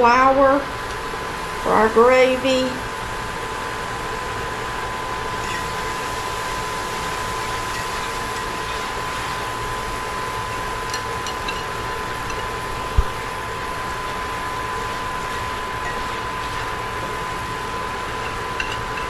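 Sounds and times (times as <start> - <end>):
oil sizzling in a skillet: 2.8 - 19.0.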